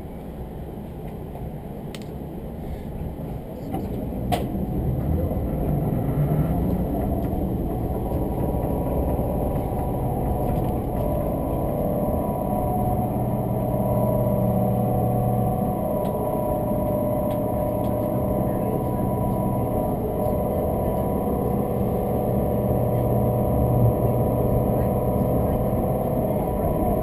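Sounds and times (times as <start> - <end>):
train passing alongside: 0.0 - 27.0
train wheels rumbling on rail: 0.0 - 27.0
steady hum: 2.5 - 27.0.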